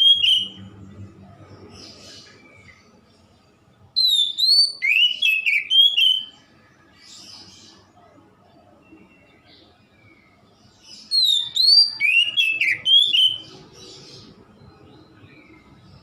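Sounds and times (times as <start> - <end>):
songbird singing whistled notes: 0.0 - 0.9, 1.5 - 16.0.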